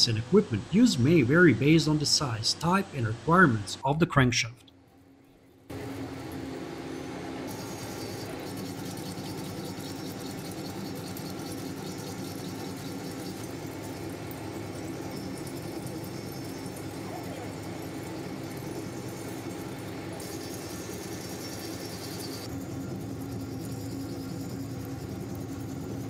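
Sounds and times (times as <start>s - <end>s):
machinery hum and hiss: 0.0s - 4.6s, 5.3s - 26.0s.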